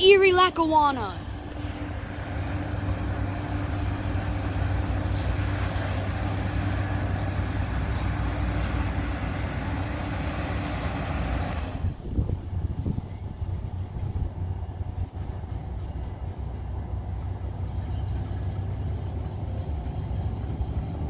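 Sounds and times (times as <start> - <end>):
locomotive low hum: 0.0 - 21.0
train wheels rumbling and rattling: 0.0 - 21.0.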